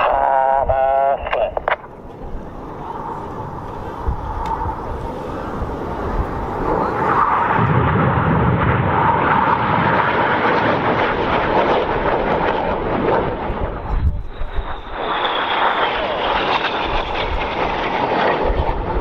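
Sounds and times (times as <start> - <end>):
jet aircraft roaring: 0.0 - 19.0.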